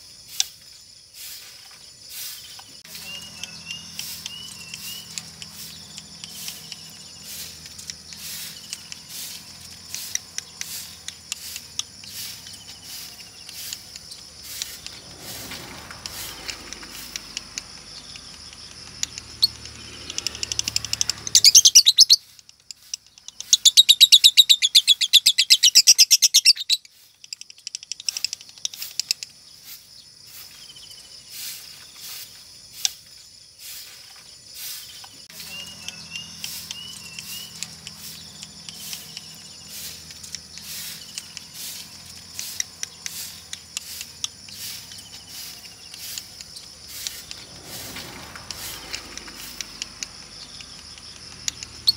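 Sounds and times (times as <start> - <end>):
lovebird rapid chatter: 0.0 - 51.9
bird chirps clicks and whistles: 2.3 - 29.5, 34.8 - 51.9.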